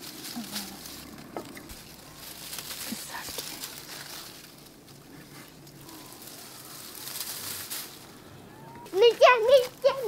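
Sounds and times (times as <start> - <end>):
plant leaves rustling: 0.0 - 10.0.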